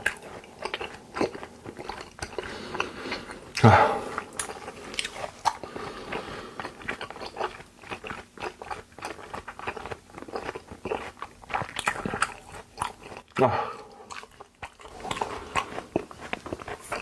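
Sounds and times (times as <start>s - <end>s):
chewing with wet mouth smacks: 0.0s - 17.0s.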